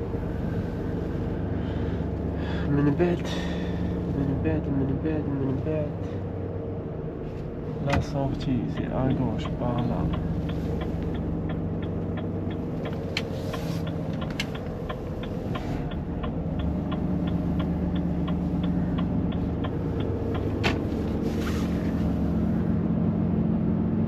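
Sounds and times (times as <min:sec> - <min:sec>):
turn signal ticking: 0:00.0 - 0:22.7
lorry engine running: 0:00.0 - 0:24.0.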